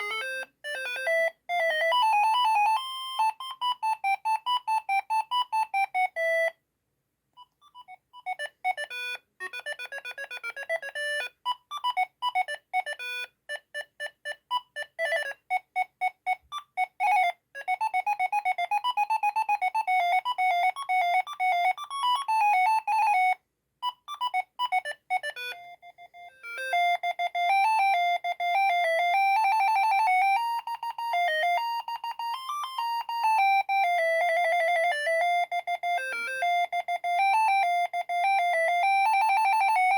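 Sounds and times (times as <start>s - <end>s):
phone ringtone beeping melodies: 0.0s - 6.6s, 7.4s - 39.9s.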